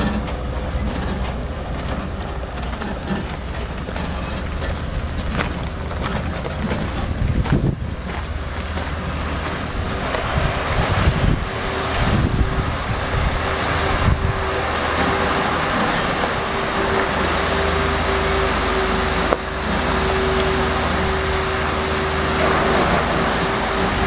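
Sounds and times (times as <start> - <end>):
truck diesel engine running: 0.0 - 24.0
wind buffeting microphone: 0.0 - 24.0.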